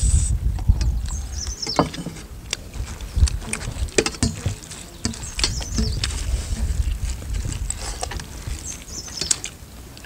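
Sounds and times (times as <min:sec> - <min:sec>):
steady low rumble: 0:00.0 - 0:04.0, 0:05.2 - 0:10.0
chewing: 0:00.6 - 0:10.0
fingers mixing rice on plates: 0:01.1 - 0:10.0.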